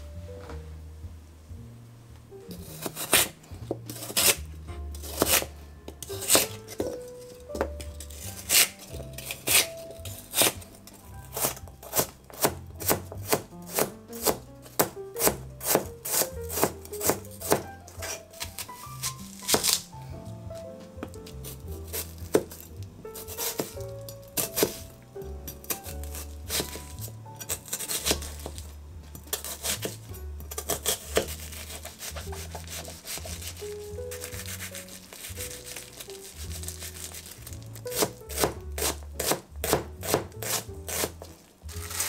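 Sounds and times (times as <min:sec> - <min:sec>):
soft background music: 0:00.0 - 0:42.0
knife chopping on cutting board: 0:02.5 - 0:10.6, 0:11.2 - 0:19.9, 0:21.0 - 0:42.0.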